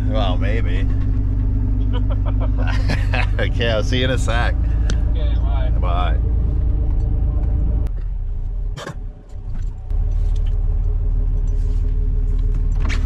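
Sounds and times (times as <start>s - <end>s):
diesel engine loud low rumble: 0.0s - 13.0s.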